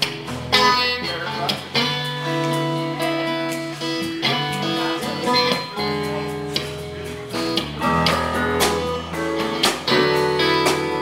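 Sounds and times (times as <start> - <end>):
guitar: 0.0 - 11.0
live band playing: 0.0 - 11.0.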